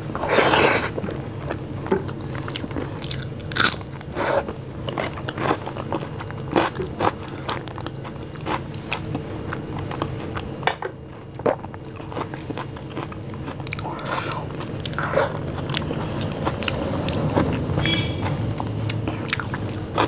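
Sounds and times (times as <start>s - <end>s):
wet chewing: 0.5s - 10.5s, 11.4s - 20.0s.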